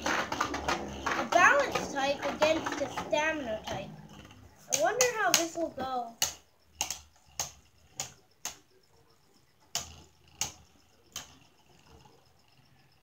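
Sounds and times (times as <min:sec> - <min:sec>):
spinning tops whirring: 0:00.0 - 0:13.0.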